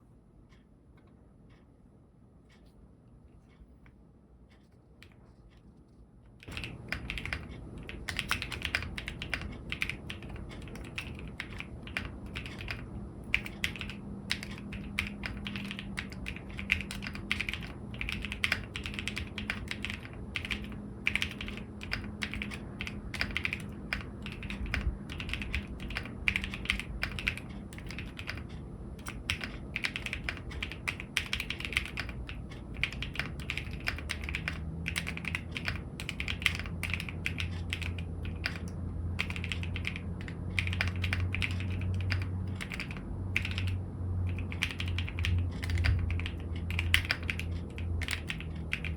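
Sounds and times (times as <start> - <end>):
fast mechanical keyboard typing: 6.4 - 48.9.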